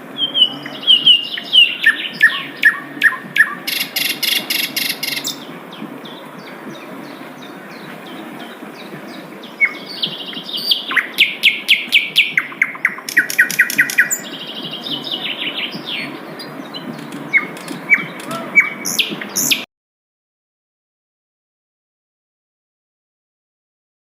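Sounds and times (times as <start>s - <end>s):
flycatcher singing trills: 0.2s - 19.6s.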